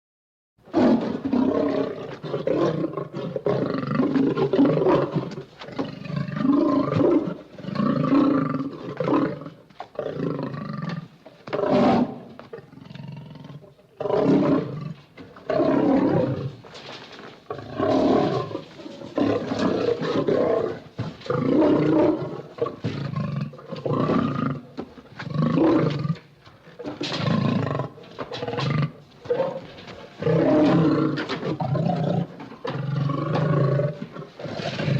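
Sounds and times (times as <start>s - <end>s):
lion roaring and growling: 0.7s - 16.7s, 17.4s - 34.9s.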